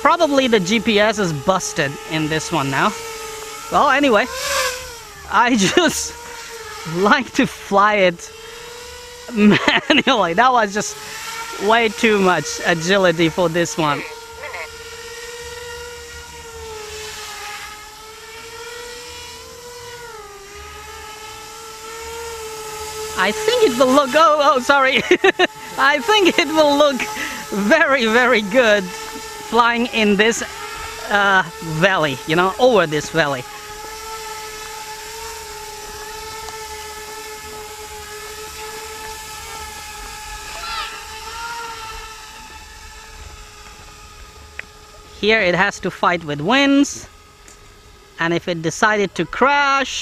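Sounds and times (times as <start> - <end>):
drone rotors whining: 0.0 - 50.0.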